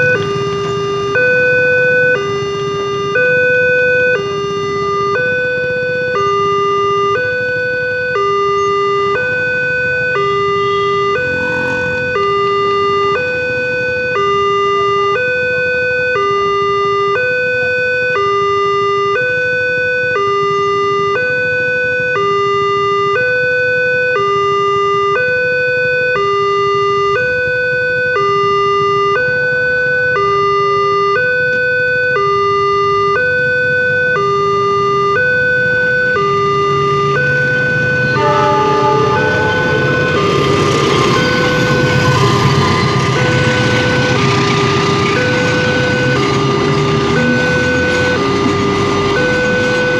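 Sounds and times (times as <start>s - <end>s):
level crossing two-tone alarm: 0.0s - 49.9s.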